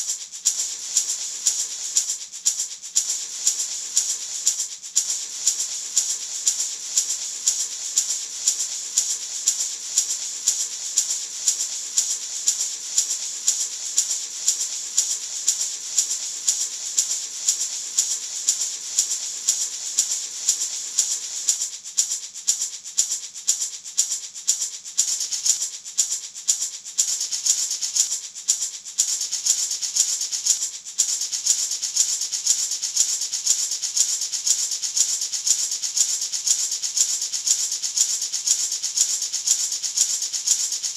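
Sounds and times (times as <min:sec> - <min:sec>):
maraca rattling: 0:00.0 - 0:40.9.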